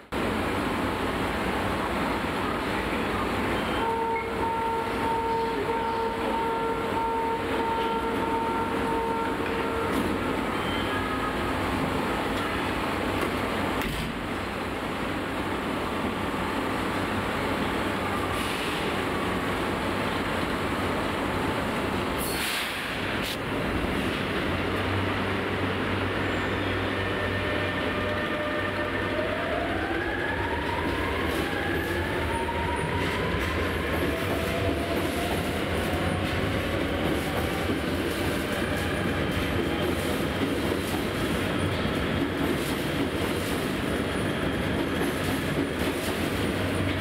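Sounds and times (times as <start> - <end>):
electric train hum: 0.0 - 22.2, 22.8 - 47.0.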